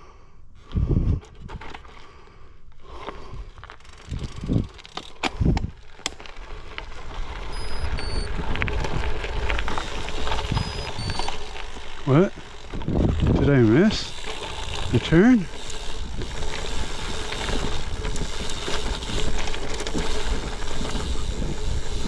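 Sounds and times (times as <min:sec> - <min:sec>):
bike tyres crunching over gravel: 0:01.3 - 0:22.0
stones ticking: 0:03.0 - 0:22.0.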